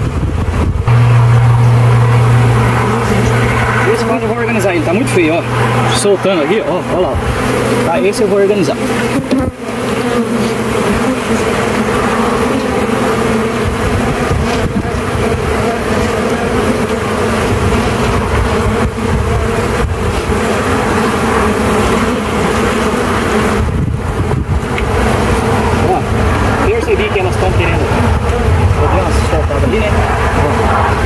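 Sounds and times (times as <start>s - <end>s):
wind rumble on microphone: 0.0s - 7.9s, 11.8s - 31.0s
honey bees buzzing: 0.0s - 31.0s.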